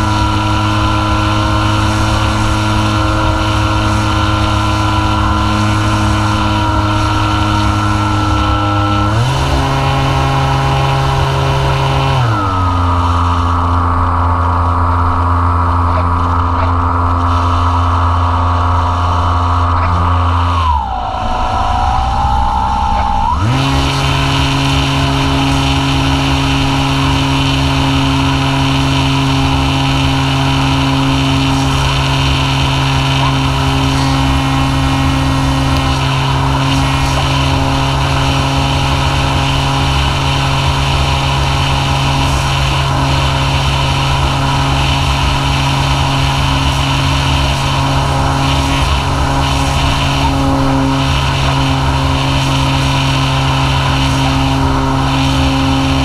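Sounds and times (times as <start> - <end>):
electric motor and propeller whine: 0.0 - 56.0
wind rushing over microphone: 0.0 - 56.0.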